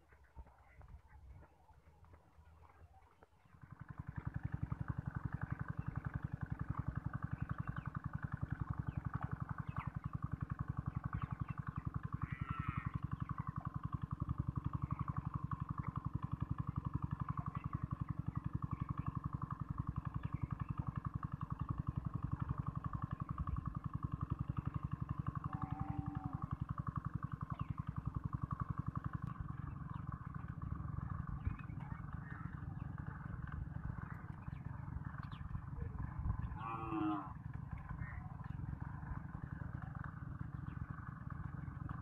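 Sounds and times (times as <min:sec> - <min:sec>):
small engine running: 0:00.0 - 0:42.0.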